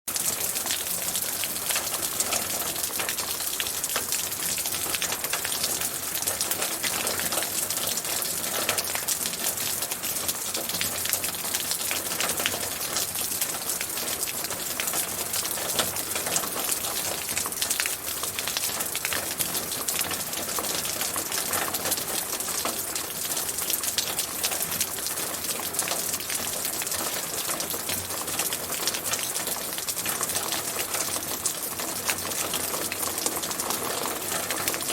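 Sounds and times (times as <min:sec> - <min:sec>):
rain falling: 0:00.1 - 0:34.9.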